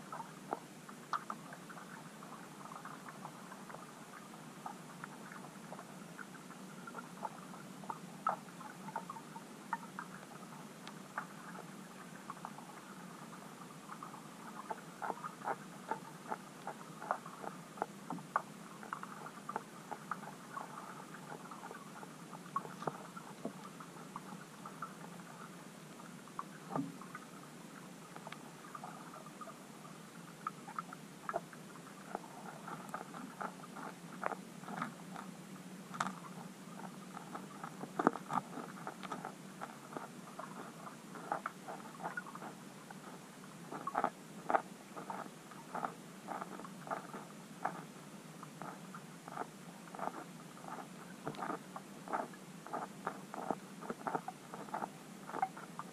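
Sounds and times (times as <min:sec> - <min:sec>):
steady low hum: 0:00.0 - 0:55.9
underwater clicks and crackles: 0:00.0 - 0:55.9.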